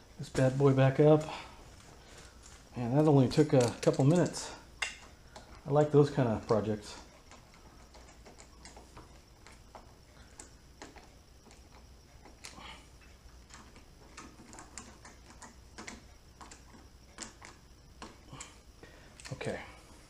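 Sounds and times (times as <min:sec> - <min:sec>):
hand tools clicking and tapping: 0:02.4 - 0:18.5.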